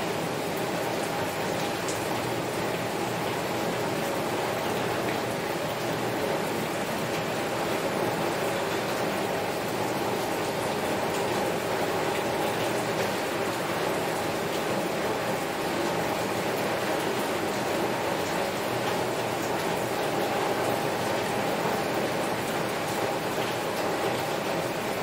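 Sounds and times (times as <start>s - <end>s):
heavy rain on window glass: 0.0s - 25.0s.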